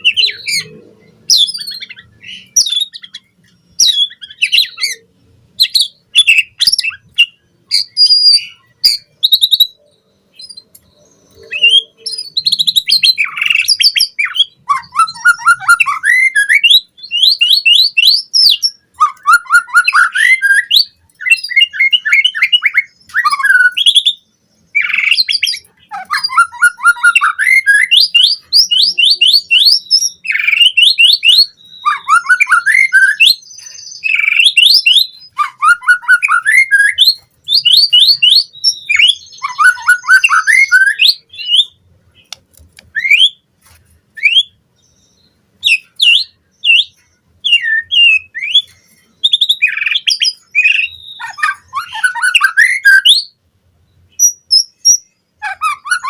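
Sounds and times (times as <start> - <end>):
bird singing whistles: 0.0 - 41.8, 42.9 - 43.4, 44.2 - 53.4, 54.1 - 56.0.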